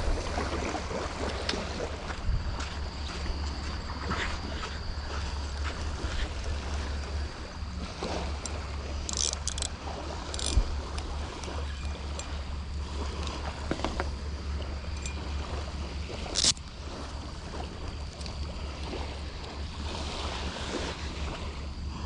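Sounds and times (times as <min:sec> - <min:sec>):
light surf: 0:00.0 - 0:22.0
wind on microphone: 0:00.0 - 0:22.0.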